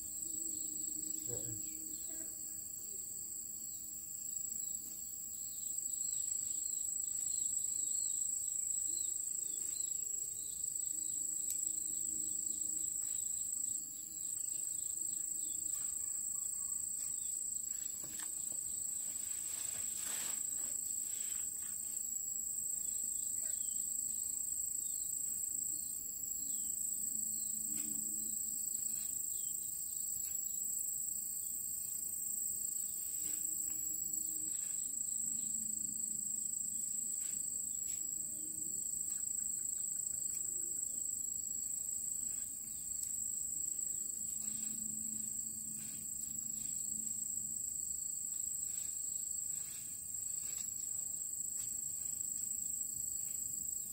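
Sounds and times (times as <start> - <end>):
shrill insect song: 0.0 - 53.9.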